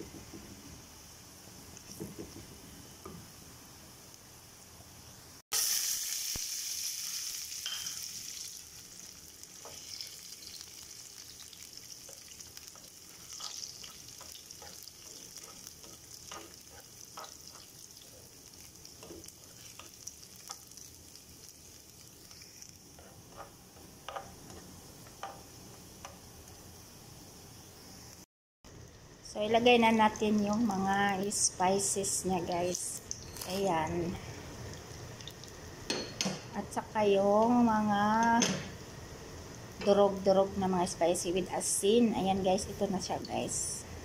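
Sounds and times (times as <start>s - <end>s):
nuts sizzling in oil: 0.2s - 43.8s.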